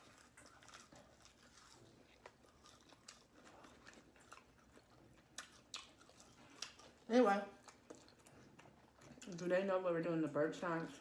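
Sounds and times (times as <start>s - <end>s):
faint chewing and biting: 0.0s - 9.8s, 10.6s - 11.0s.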